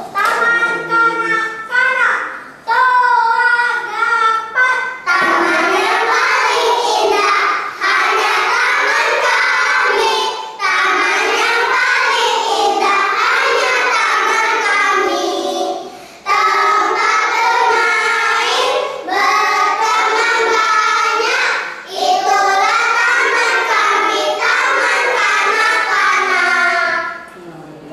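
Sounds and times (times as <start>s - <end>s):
children's choir singing: 2.4s - 27.3s.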